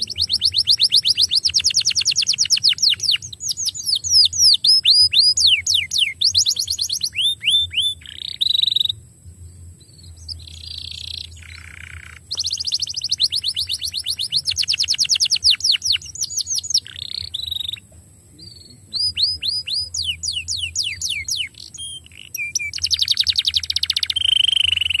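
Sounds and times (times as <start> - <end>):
canary singing trills: 0.0 - 25.0.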